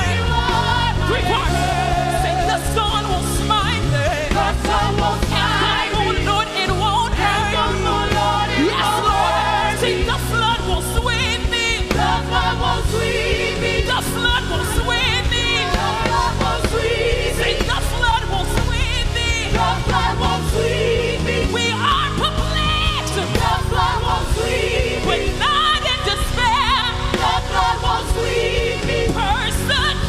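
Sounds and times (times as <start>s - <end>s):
bass and drums: 0.0s - 30.0s
choir singing with vibrato: 0.0s - 30.0s.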